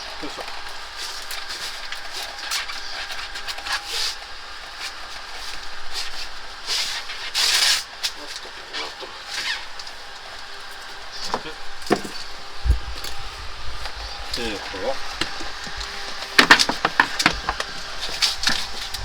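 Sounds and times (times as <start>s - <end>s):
hands rustling and scraping piping: 0.0s - 19.0s.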